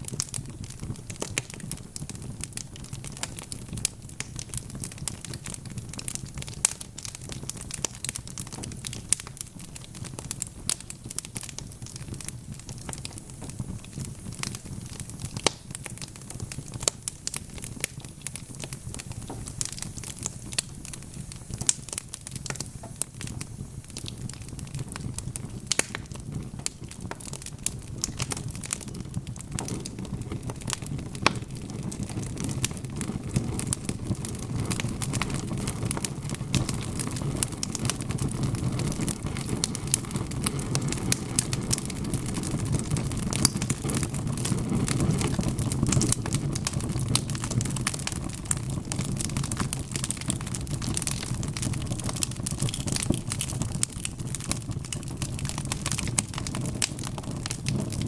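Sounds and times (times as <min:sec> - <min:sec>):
logs crackling and popping: 0:00.0 - 0:58.0
low rumble of flames: 0:00.0 - 0:58.0.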